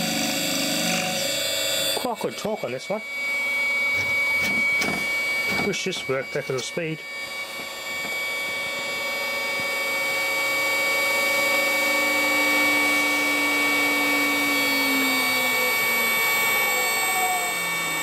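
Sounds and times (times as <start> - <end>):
electric motor whine: 0.0 - 18.0
steady high whining tones: 0.0 - 18.0.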